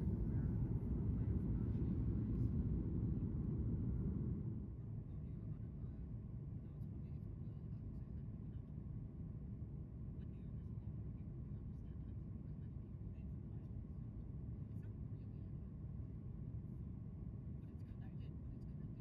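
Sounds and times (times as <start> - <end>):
airplane cabin rumble in flight: 0.0 - 19.0.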